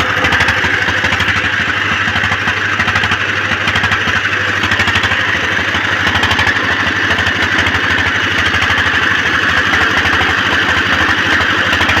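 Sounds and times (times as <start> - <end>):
diesel generator engine running: 0.0 - 12.0.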